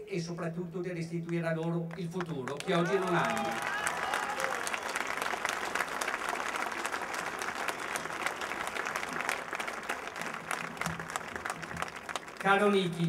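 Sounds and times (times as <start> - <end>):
crowd applauding: 1.9 - 13.0.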